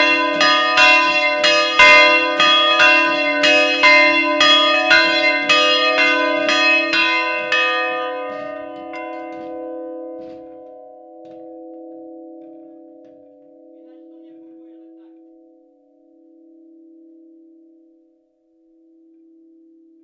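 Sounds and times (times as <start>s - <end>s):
church bells ringing: 0.0s - 18.3s.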